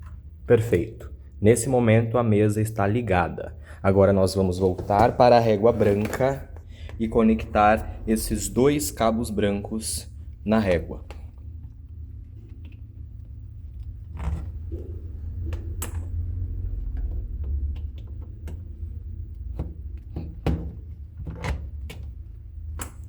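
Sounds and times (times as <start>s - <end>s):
low handling rumble: 3.0s - 23.0s.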